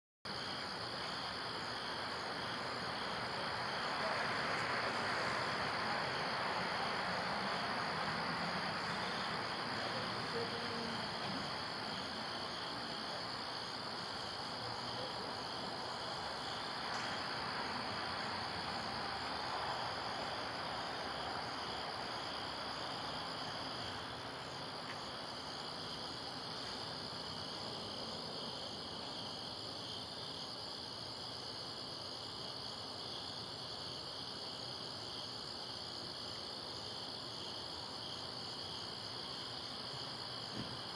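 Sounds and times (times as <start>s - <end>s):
crickets chirping: 0.3s - 40.9s.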